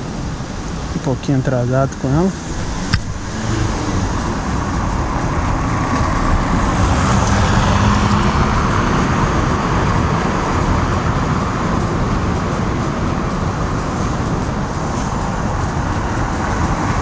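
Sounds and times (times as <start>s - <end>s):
car driving over cobblestones: 1.8s - 17.0s.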